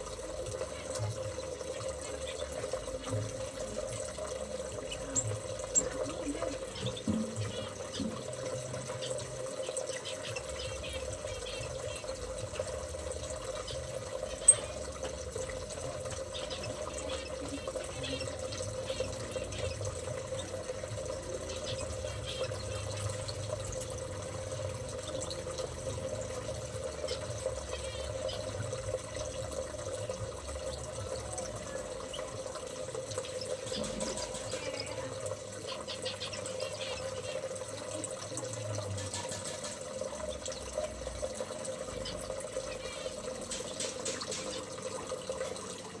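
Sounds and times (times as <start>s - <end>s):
water running: 0.0s - 46.0s
small birds chirping: 0.6s - 25.5s, 26.9s - 29.6s, 31.0s - 40.9s, 41.8s - 45.6s.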